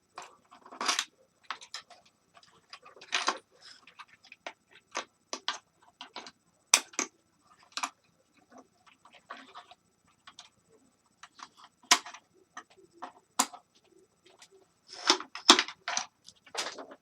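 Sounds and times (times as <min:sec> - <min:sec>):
plastic parts clicking and clattering: 0:00.1 - 0:10.6, 0:11.2 - 0:17.0.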